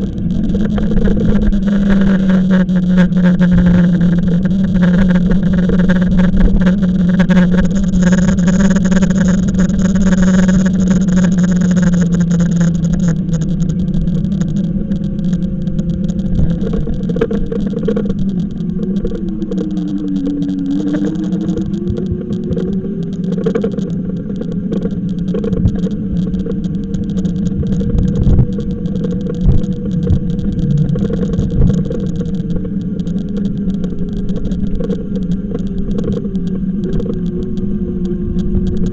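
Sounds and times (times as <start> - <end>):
electric bike motor humming: 0.0 - 38.9
road rumble: 0.0 - 38.9
wind noise: 0.0 - 38.9.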